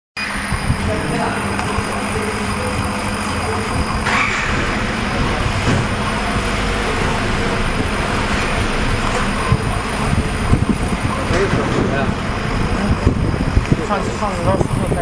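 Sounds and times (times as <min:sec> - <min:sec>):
laser cutter mechanical hum: 0:00.2 - 0:15.0.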